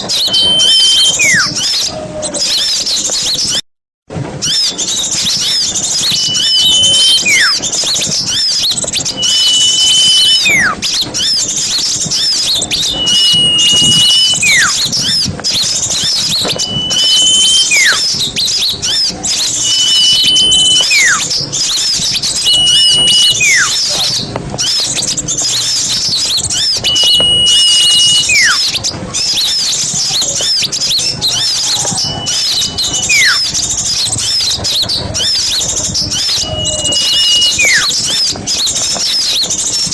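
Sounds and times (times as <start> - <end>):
whistle with falling sweep: 0.0 - 1.9, 4.4 - 11.3, 12.2 - 15.2, 15.9 - 24.1, 25.6 - 29.7, 30.4 - 39.9
small birds chirping: 0.0 - 3.6, 4.4 - 39.9.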